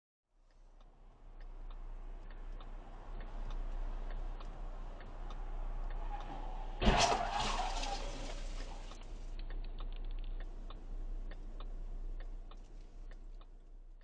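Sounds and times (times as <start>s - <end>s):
low steady car hum: 0.3s - 14.0s
turn signal ticking: 0.3s - 14.0s.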